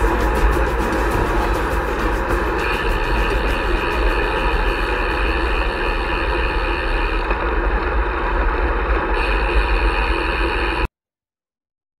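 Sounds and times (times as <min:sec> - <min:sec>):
bicycle rolling noise: 0:00.0 - 0:10.9.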